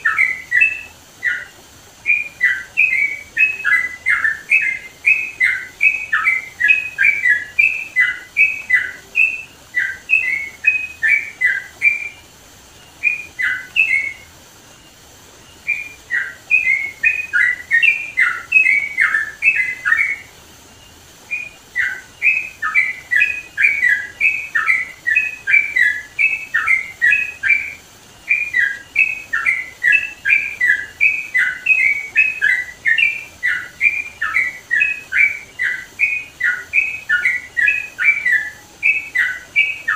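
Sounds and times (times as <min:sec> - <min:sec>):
bulbul singing chirped notes: 0:00.0 - 0:39.9.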